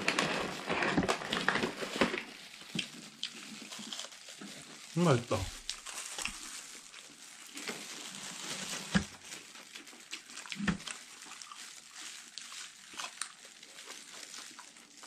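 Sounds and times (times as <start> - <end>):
crunchy chewing: 0.2 - 15.0.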